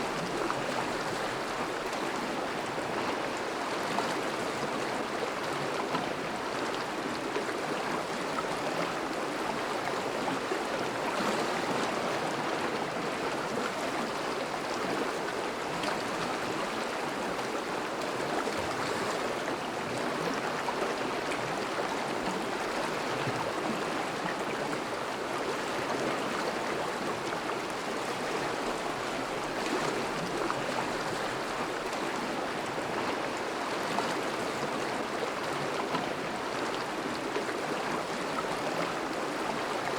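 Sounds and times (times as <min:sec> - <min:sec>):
river flowing around ice: 0:00.0 - 0:39.9.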